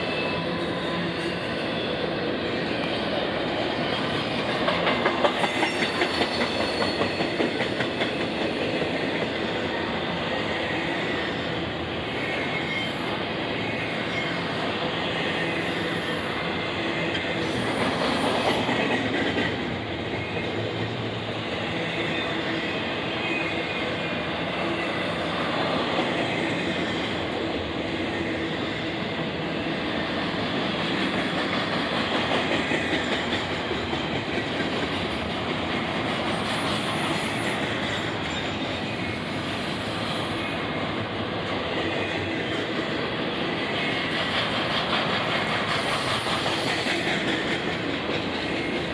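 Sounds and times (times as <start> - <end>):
train wheels on rails: 0.0 - 48.9.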